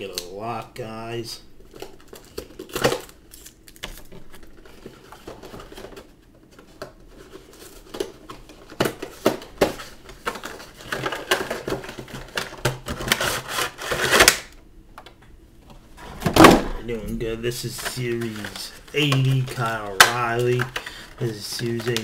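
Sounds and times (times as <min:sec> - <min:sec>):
packaging crinkling and rustling: 0:01.6 - 0:14.5, 0:17.2 - 0:22.0.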